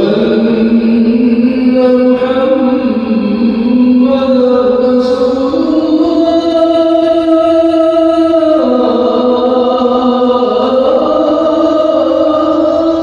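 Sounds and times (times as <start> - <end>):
voice chanting long held notes: 0.0 - 13.0.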